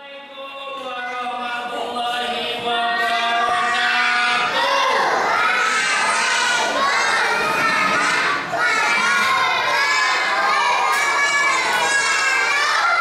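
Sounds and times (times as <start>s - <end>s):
children shouting: 0.8s - 13.0s.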